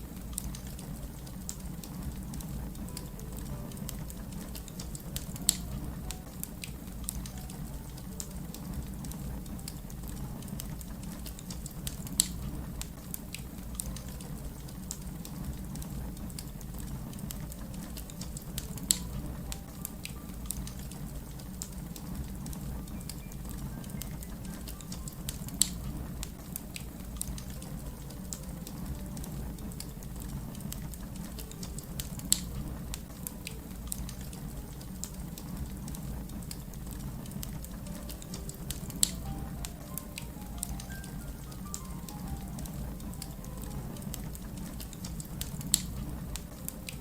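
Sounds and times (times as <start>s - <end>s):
fire burning rumble: 0.0s - 47.0s
fire crackling and popping: 0.0s - 47.0s.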